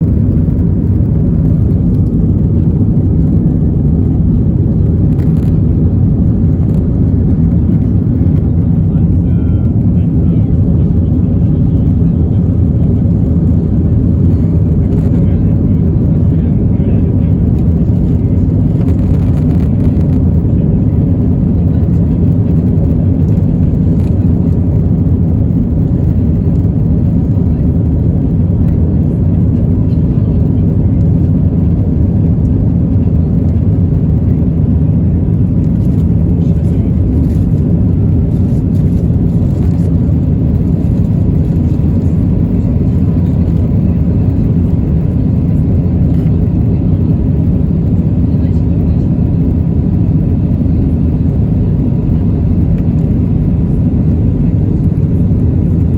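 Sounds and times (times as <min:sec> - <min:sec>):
jet engine cabin rumble: 0:00.0 - 0:55.9.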